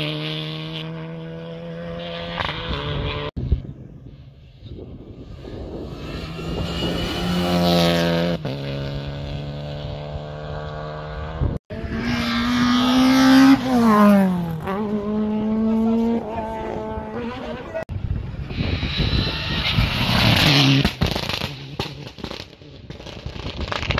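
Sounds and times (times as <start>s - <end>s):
rally car engines revving: 0.0s - 3.6s, 5.4s - 23.2s.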